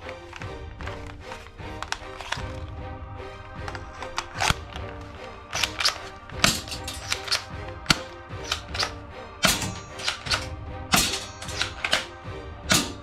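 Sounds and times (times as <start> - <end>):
plastic toy pistol clicking: 0.0 - 2.6, 3.6 - 13.0
background music: 0.0 - 13.0.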